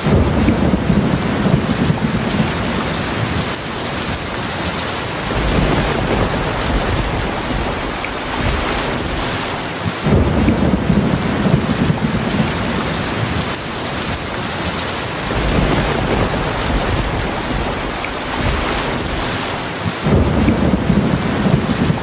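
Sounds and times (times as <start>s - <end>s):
heavy rain: 0.0s - 22.0s
low rolling thunder: 0.0s - 22.0s.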